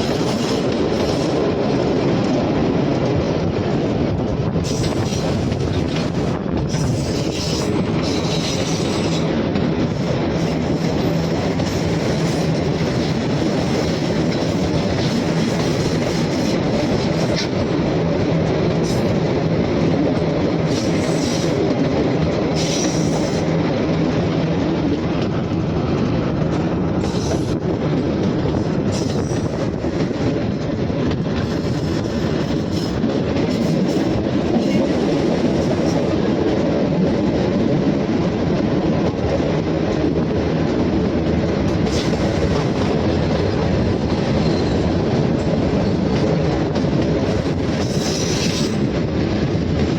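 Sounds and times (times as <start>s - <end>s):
train rumbling along track: 0.0s - 49.9s.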